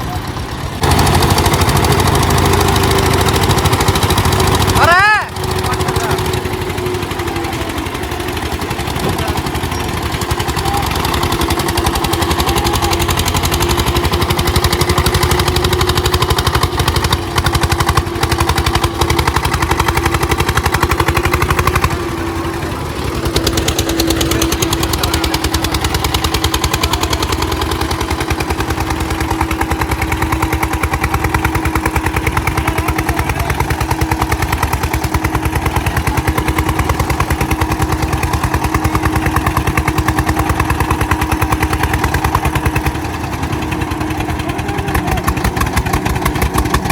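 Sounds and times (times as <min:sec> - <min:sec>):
tractor diesel engines under load: 0:00.0 - 0:46.9.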